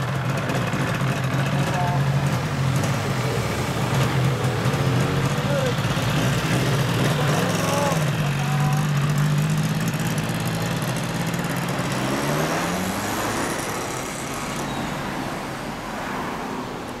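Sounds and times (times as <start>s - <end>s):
two-stroke motorcycle engine: 0.0s - 14.8s.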